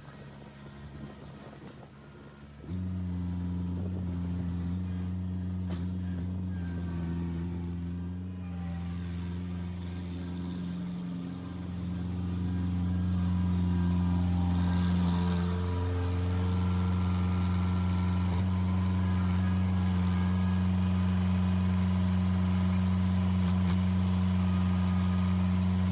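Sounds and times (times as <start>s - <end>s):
diesel engine running steadily: 0.0s - 25.9s.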